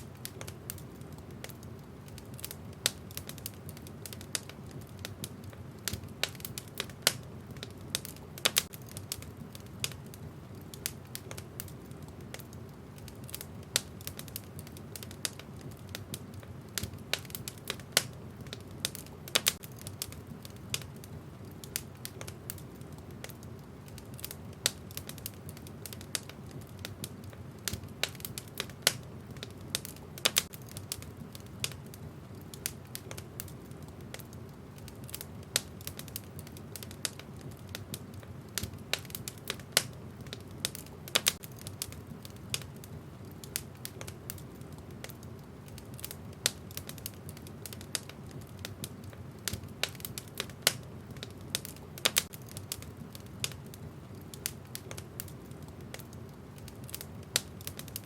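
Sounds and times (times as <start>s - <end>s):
burning logs crackling and popping: 0.0s - 58.0s
low rumble of flames: 0.0s - 58.0s.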